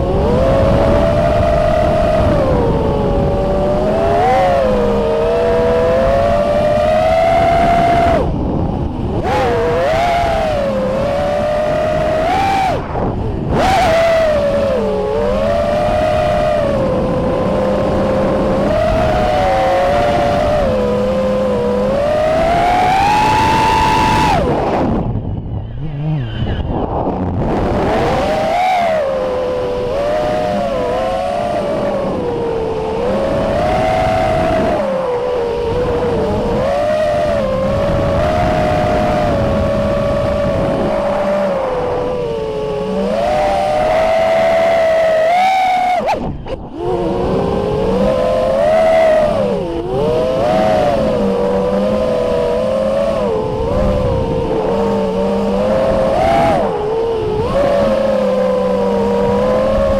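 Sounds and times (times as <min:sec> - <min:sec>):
wind rushing: 0:00.0 - 0:58.3
quadcopter motors whining: 0:00.0 - 0:59.9.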